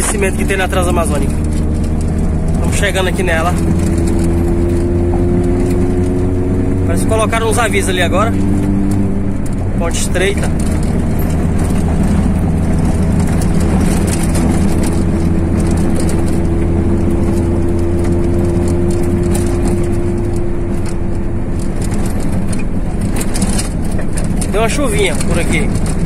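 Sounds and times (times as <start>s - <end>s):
car engine and tyre rumble: 0.0s - 26.0s
small clicks and rattles: 0.0s - 26.0s.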